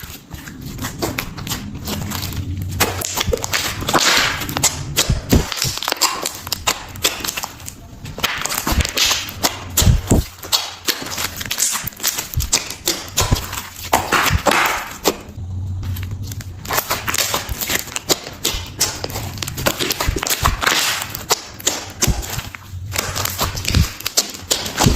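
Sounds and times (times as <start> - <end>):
slime squelching: 0.0 - 24.9
slime clicking and popping: 2.8 - 15.4, 16.2 - 24.9.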